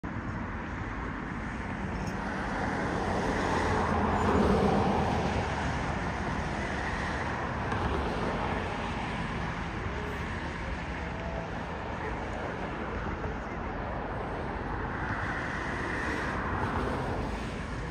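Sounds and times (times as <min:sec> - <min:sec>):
road traffic rumble: 0:00.0 - 0:17.9.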